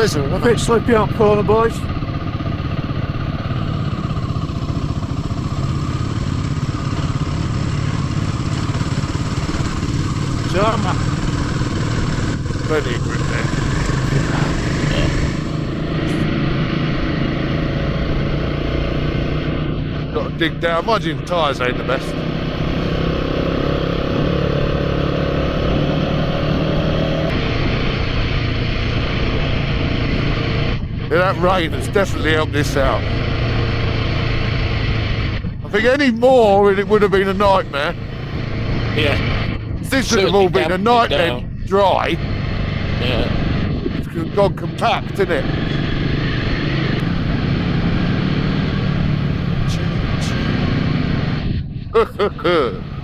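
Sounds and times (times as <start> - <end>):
motorcycle engine running: 0.0 - 53.0
road noise: 0.0 - 53.0
wind: 0.0 - 53.0.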